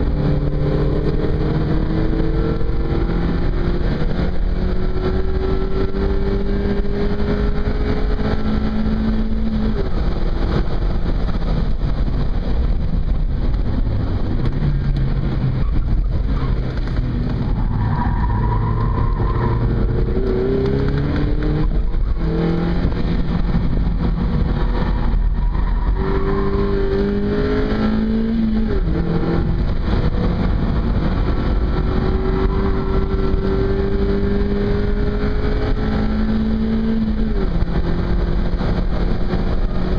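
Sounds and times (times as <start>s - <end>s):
car engine revving: 0.0s - 39.9s
road and wind noise: 0.0s - 39.9s.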